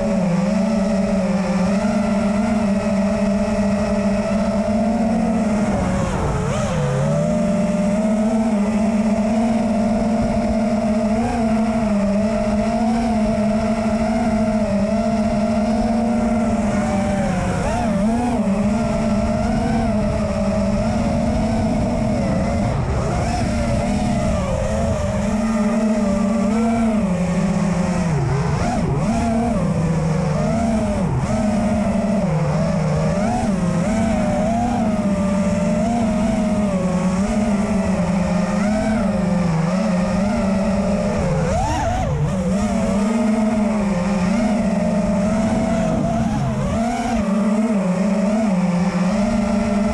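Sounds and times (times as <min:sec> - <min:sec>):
drone motors whining: 0:00.0 - 0:49.9.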